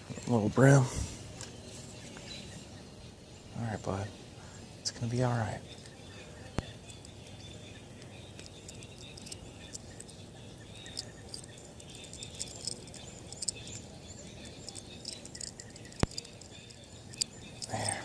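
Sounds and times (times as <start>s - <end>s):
low steady background: 0.0s - 18.0s
small birds chirping: 0.3s - 18.0s.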